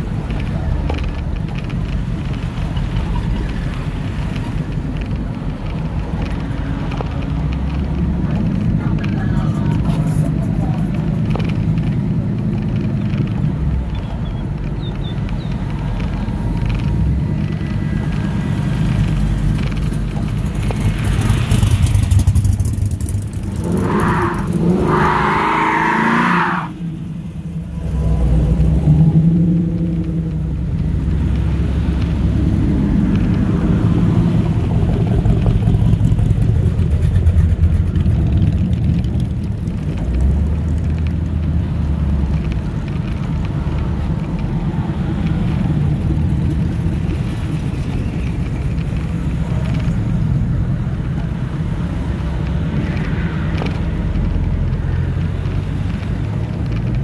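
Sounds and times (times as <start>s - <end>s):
car engines rumbling past: 0.0s - 57.0s.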